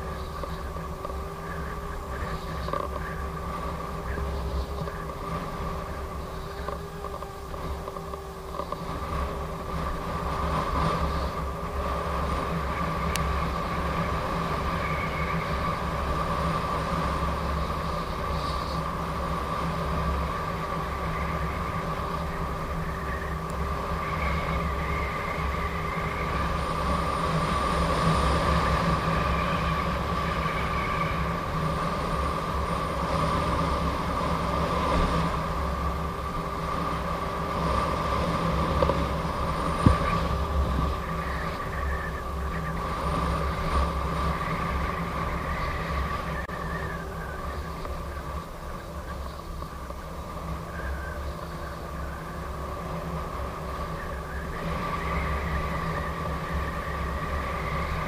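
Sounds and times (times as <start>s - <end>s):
electric motor whine: 0.0s - 58.0s
wind rumble on microphone: 0.0s - 58.0s.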